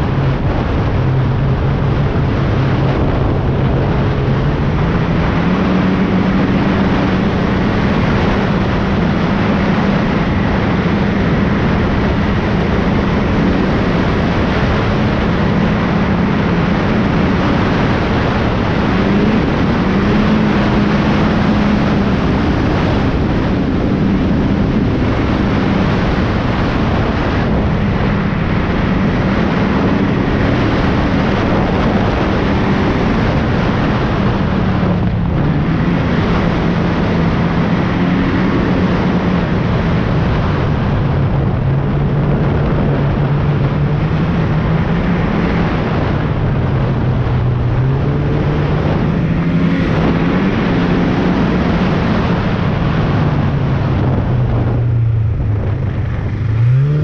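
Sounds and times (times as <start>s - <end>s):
snowmobile engine running: 0.0s - 57.0s
steady rushing noise: 0.0s - 57.0s.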